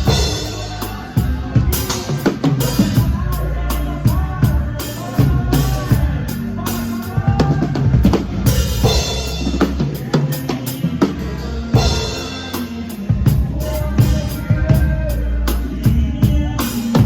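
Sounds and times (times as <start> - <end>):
drum kit hits: 0.0 - 17.0
live band music: 0.0 - 17.0.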